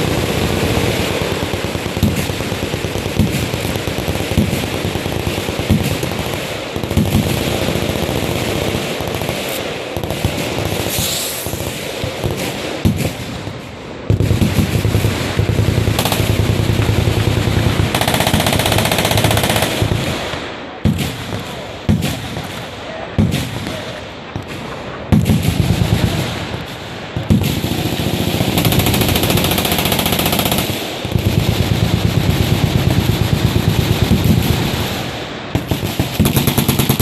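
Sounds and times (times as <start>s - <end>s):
machine-gun fire bursts: 0.0s - 37.0s.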